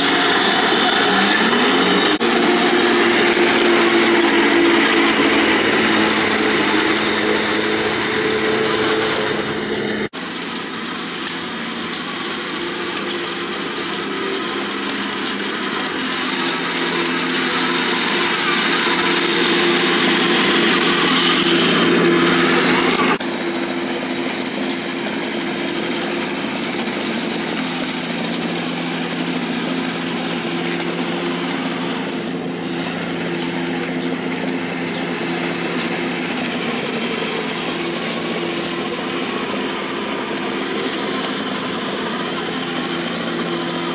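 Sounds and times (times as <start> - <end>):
tank engine hum from speaker: 0.0 - 43.9.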